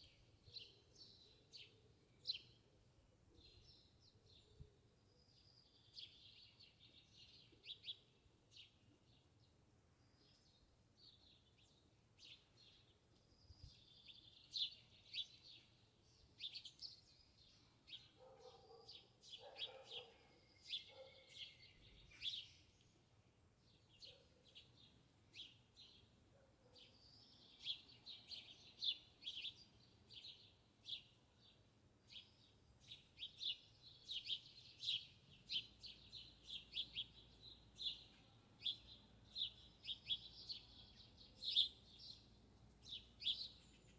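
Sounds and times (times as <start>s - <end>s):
small songbirds chirping: 0.0s - 43.9s.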